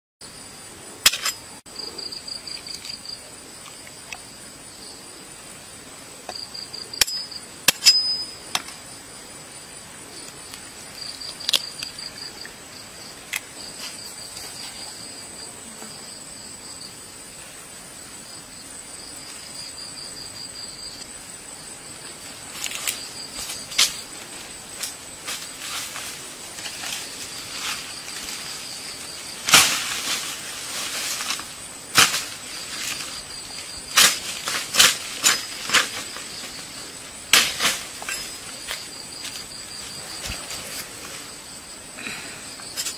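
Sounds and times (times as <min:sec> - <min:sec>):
insects trilling: 0:00.2 - 0:42.9.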